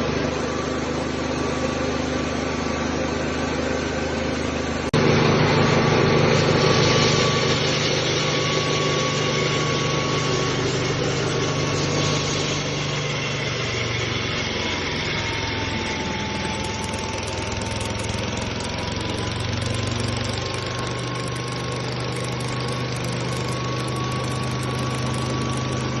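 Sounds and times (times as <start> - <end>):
rice milling machine humming: 0.0 - 26.0.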